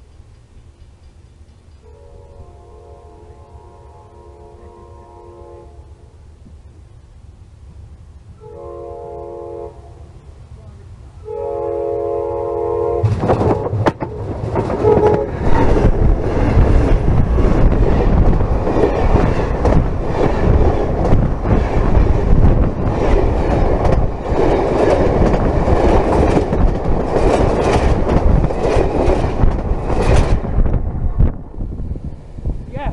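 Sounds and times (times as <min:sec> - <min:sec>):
train wheel rumble and rail clatter: 0:00.0 - 0:32.9.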